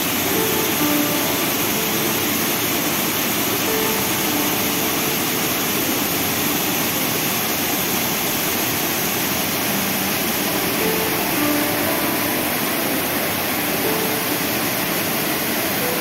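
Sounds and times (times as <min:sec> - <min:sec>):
waterfall rushing over boulders: 0:00.0 - 0:16.0.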